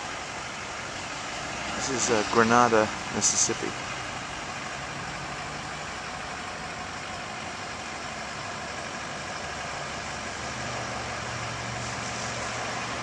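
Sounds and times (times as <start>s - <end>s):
road traffic noise: 0.0s - 13.0s
vehicle engine idling hum: 0.0s - 13.0s.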